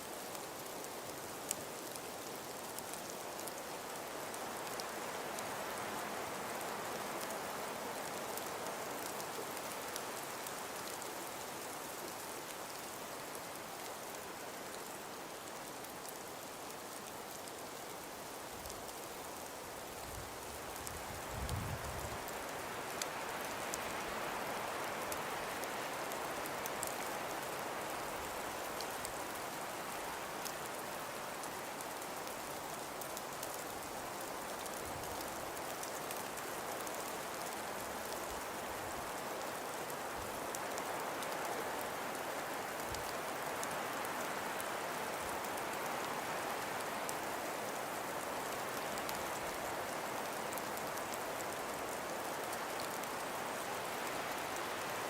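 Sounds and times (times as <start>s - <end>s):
wind hiss: 0.0s - 55.0s.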